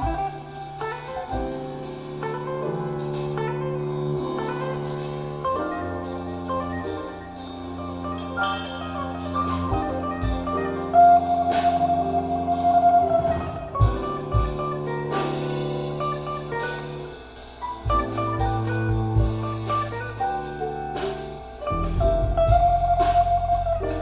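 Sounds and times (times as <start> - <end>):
drum kit with cymbals: 0.0 - 24.0
walking bass line: 1.2 - 24.0.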